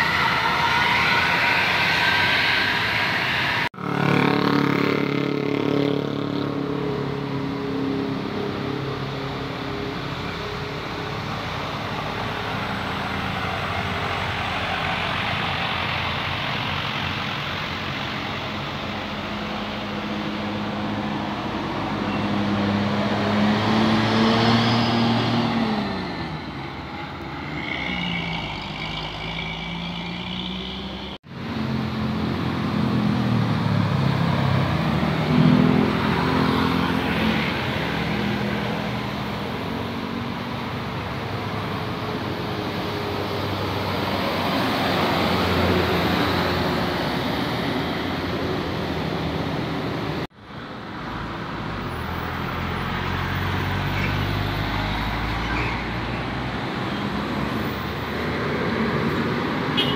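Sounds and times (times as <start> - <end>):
heavy diesel vehicles passing: 0.0 - 59.9.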